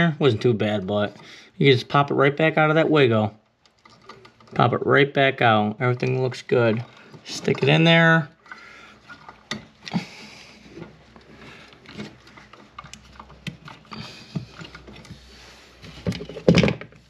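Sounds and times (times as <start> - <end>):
outlet and wires clicking and rustling: 0.0 - 17.0.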